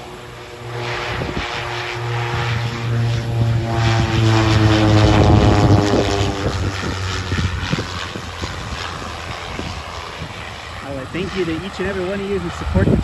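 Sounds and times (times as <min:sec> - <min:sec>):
propeller aircraft passing by: 0:00.0 - 0:13.0.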